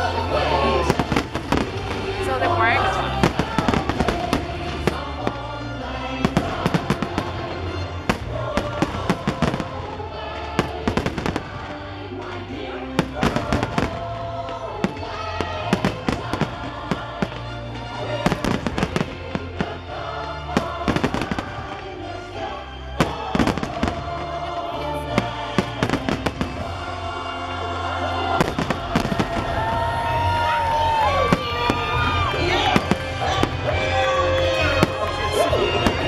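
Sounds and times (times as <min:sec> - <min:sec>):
fireworks bangs: 0:00.0 - 0:36.0
show music: 0:00.0 - 0:36.0.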